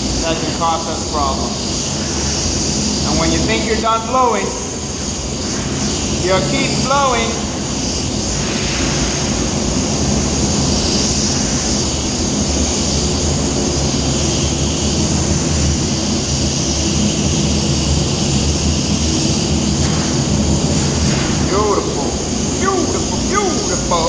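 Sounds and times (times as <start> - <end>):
air blower rushing: 0.0 - 24.0.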